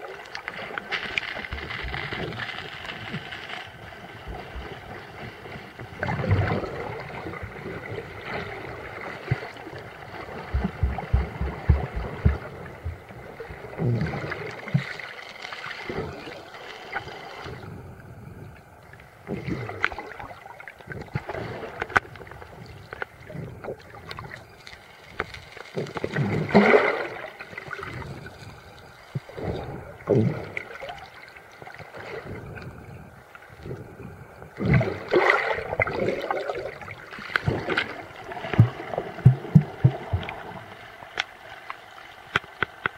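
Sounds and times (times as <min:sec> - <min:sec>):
water sloshing and gurgling: 0:00.0 - 0:42.9.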